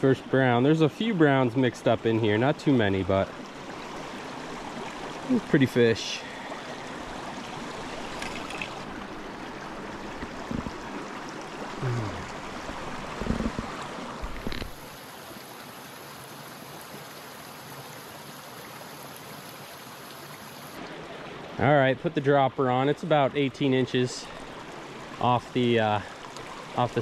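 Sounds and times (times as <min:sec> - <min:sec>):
brook water rushing: 0:00.0 - 0:27.0.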